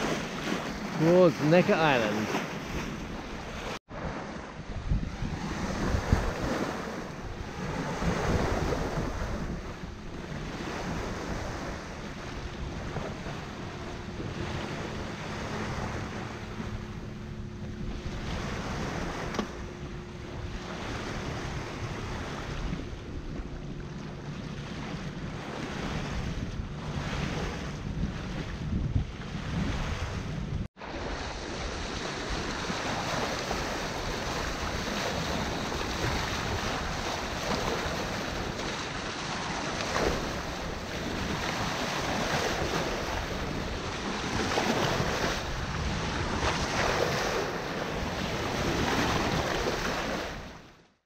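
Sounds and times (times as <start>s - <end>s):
wind buffeting microphone: 0.0s - 50.6s
water rushing along hull: 0.0s - 51.0s.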